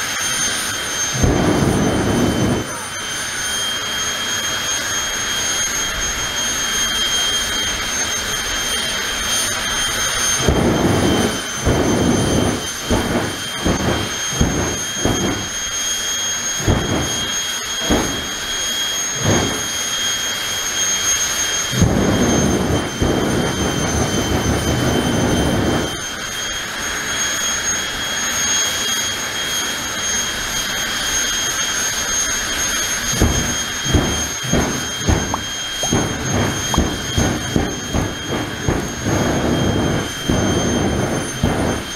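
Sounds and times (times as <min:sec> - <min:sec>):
turbine engine whine: 0:00.0 - 0:41.9
rumbling afterburner bursts: 0:00.1 - 0:04.6, 0:05.7 - 0:27.0, 0:32.0 - 0:41.9.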